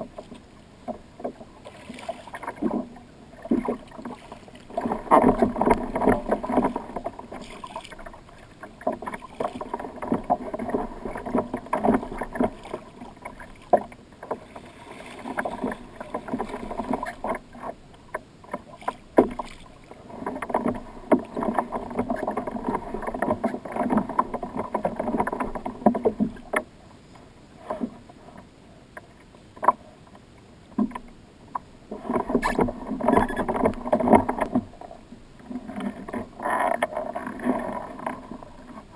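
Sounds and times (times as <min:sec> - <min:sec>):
knocks and clicks from boat: 0:00.0 - 0:26.7, 0:27.6 - 0:38.9
water slapping against kayak hull: 0:00.0 - 0:26.7, 0:31.9 - 0:38.9.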